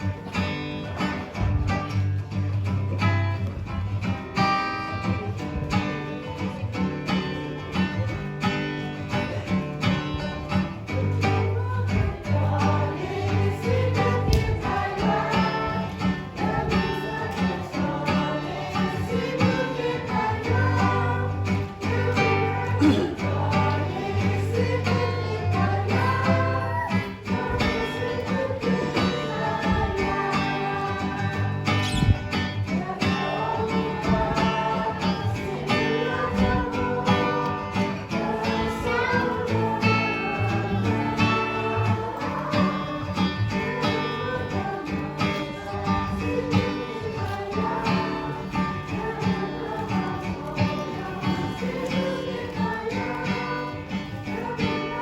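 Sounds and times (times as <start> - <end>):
acoustic guitar music: 0.0 - 55.0
person singing: 10.9 - 55.0.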